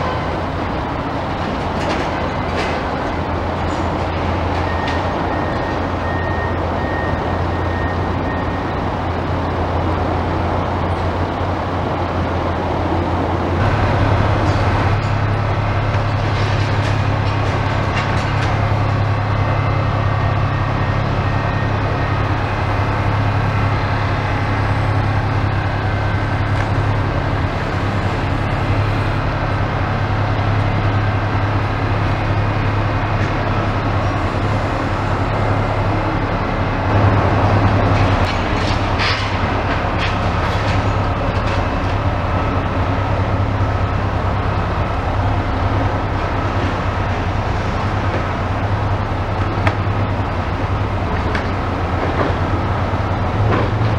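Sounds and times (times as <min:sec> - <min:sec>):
low mechanical drone: 0:00.0 - 0:53.9.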